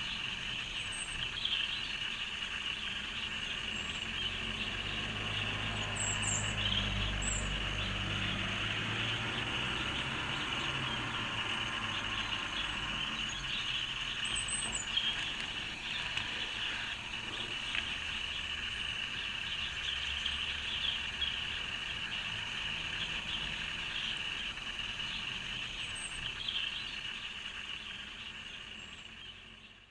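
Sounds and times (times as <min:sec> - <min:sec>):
high bird chirps: 0:00.0 - 0:29.9
high-pitched hiss: 0:00.0 - 0:29.9.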